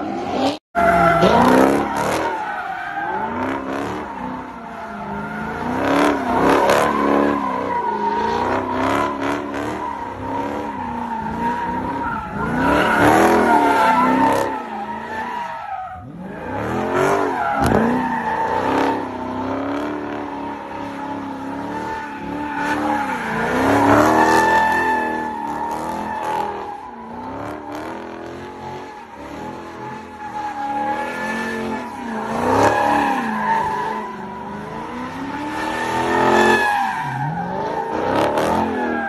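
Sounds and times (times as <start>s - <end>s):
tyres squealing on pavement: 0.1s - 39.0s.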